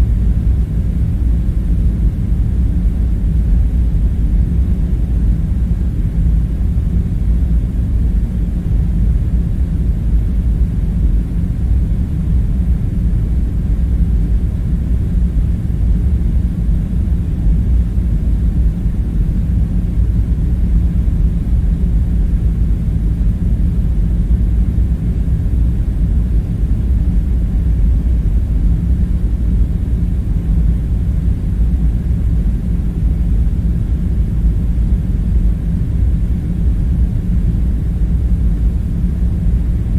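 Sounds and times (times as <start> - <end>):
low rumbling drone: 0.0 - 39.9.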